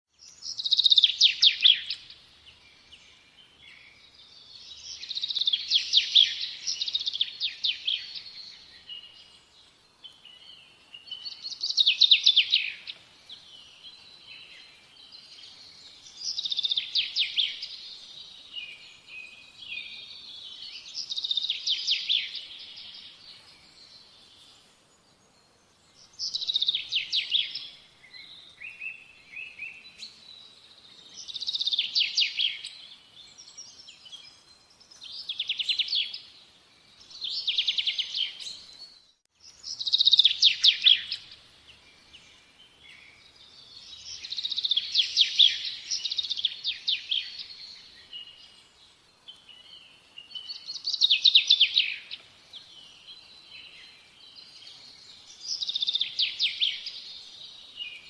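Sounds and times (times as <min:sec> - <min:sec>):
songbird singing: 0:00.1 - 0:58.0.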